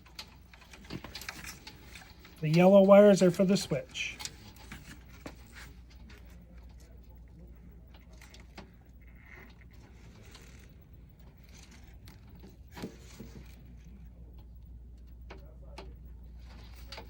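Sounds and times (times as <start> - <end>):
small clicks and scrapes: 0.0 - 3.4, 4.1 - 17.0
low steady hum: 0.0 - 17.0.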